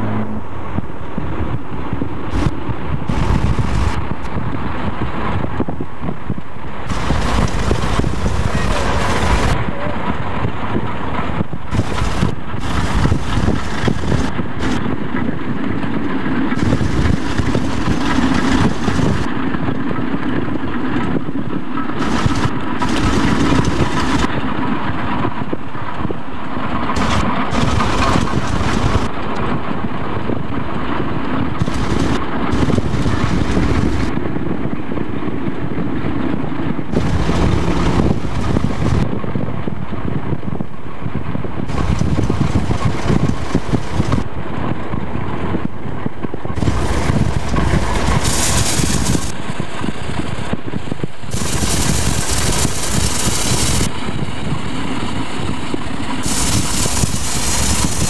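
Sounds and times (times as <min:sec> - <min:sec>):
road and engine noise inside car: 0:00.0 - 0:58.0.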